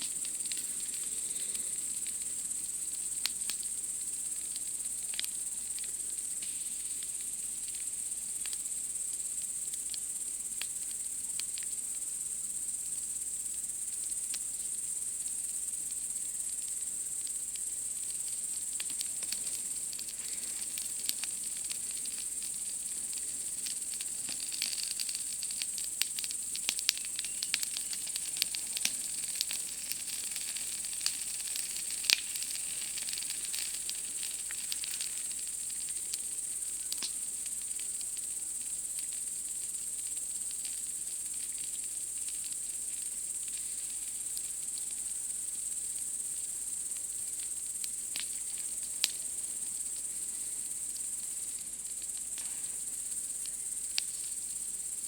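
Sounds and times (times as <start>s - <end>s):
campfire crackling and popping: 0.0s - 11.8s, 12.8s - 55.0s
night insects chorus: 0.0s - 55.0s.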